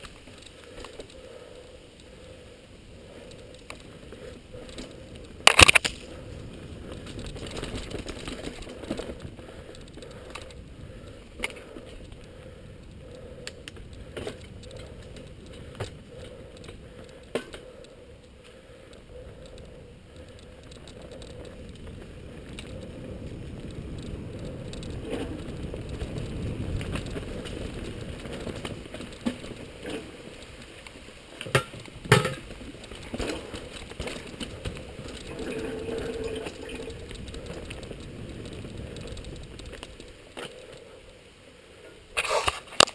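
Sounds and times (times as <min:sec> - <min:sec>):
bike tyres rumbling on dirt: 0:00.0 - 0:42.9.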